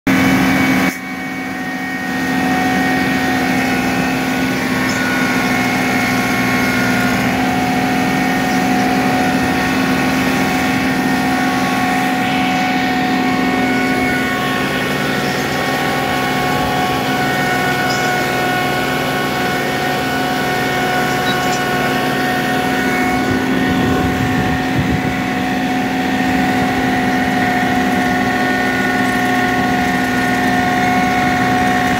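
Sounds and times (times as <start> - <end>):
tractor diesel engine under load: 0.1 - 31.9.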